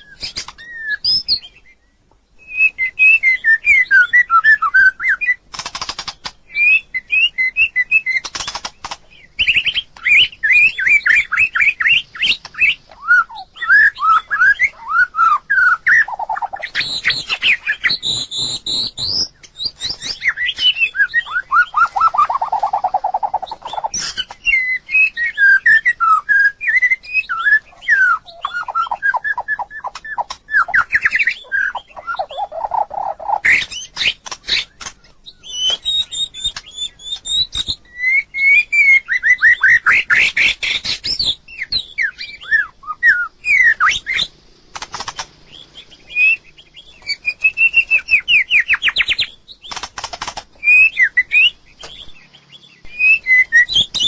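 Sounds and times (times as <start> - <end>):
bird singing whistled notes: 0.0 - 5.5, 6.2 - 44.4, 45.1 - 49.9, 50.6 - 54.0.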